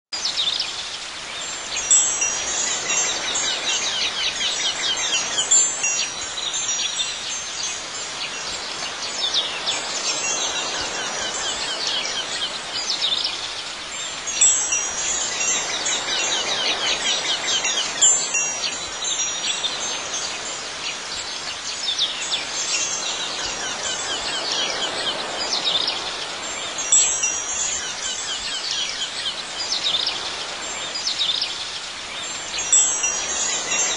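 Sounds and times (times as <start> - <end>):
outdoor ambience hiss: 0.1 - 33.9
wind chimes tinkling: 1.3 - 33.9.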